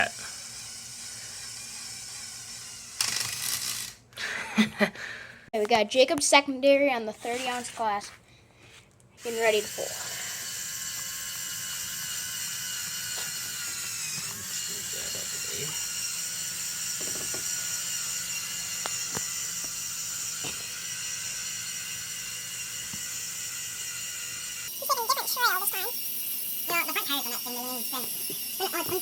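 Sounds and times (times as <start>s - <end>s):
toy electric motor whining: 0.0s - 4.0s, 9.2s - 29.0s.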